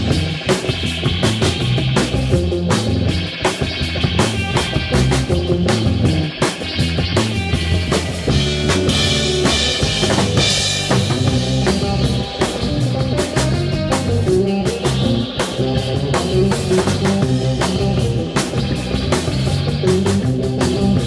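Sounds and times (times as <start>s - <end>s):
drum kit beat: 0.0s - 21.0s
electric bass: 0.0s - 21.0s
electric guitar: 0.0s - 21.0s.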